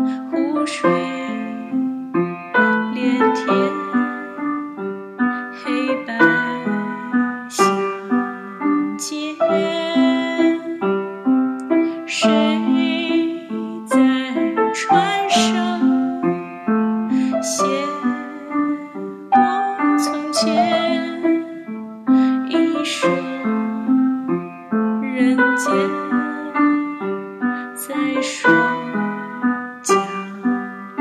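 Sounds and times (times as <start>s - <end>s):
keyboard playing gentle melody: 0.0s - 31.0s.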